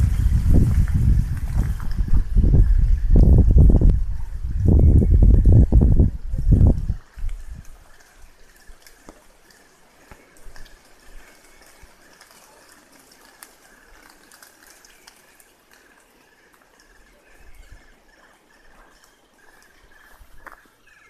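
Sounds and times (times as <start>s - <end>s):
scattered ticks: 0.0s - 21.0s.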